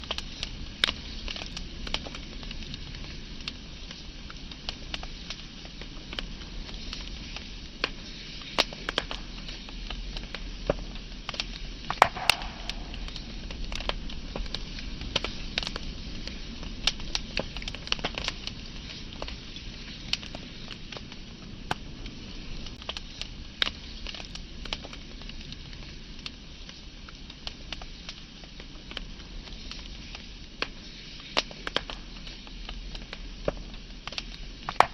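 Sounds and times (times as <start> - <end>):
burning wood popping: 0.0 - 34.9
wood fire crackling: 0.0 - 34.9.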